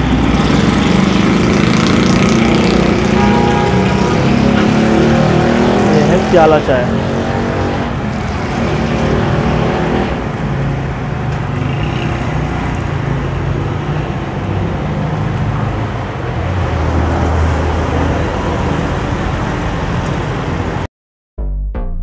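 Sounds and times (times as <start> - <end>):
street traffic noise: 0.0 - 20.9.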